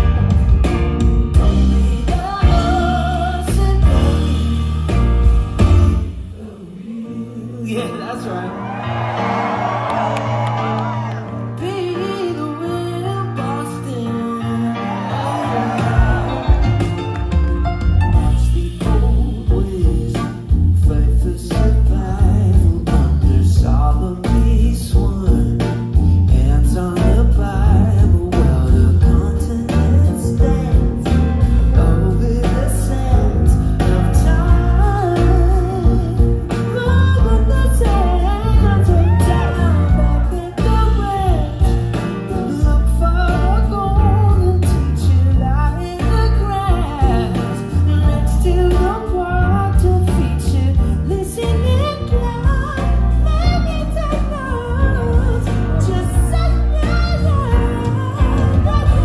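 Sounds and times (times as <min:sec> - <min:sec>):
live rock band playing: 0:00.0 - 0:06.5, 0:07.9 - 0:59.0
man singing lead: 0:01.3 - 0:59.0.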